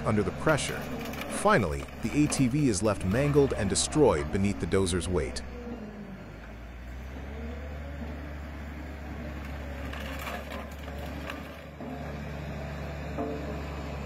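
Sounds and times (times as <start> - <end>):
diesel engine running: 0.0 - 14.0
vehicle crunching and cracking: 0.0 - 14.0.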